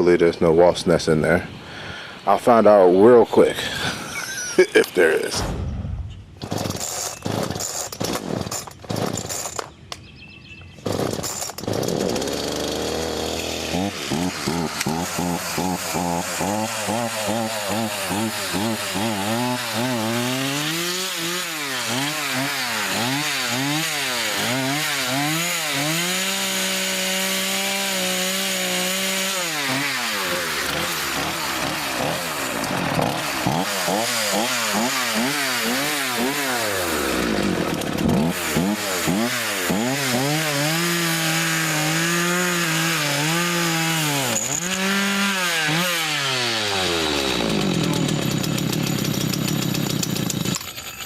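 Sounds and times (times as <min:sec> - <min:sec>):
chainsaw revving: 0:02.0 - 0:05.3, 0:06.4 - 0:09.7, 0:10.8 - 0:51.0.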